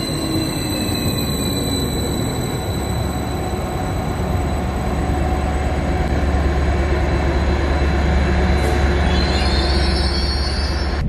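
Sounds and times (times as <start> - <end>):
train high whine: 0.0 - 11.0
train low rumble: 0.0 - 11.0.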